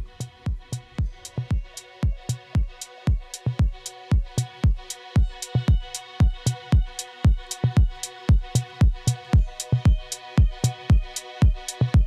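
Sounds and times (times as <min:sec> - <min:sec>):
kick drums: 0:00.0 - 0:12.0.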